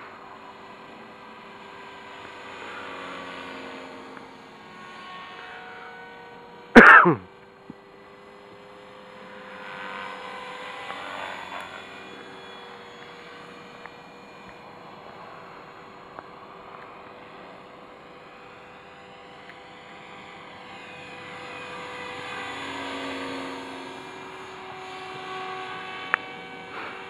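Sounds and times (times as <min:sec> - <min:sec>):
rc helicopter motor whine: 0:00.0 - 0:27.0.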